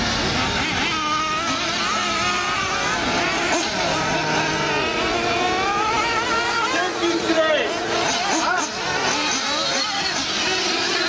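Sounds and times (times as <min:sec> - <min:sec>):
rc buggy engines revving: 0:00.0 - 0:11.0.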